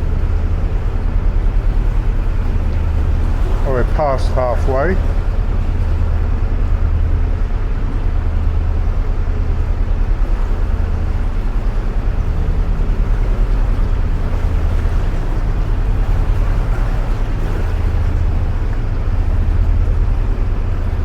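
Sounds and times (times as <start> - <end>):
boat engine low drone: 0.0 - 21.0.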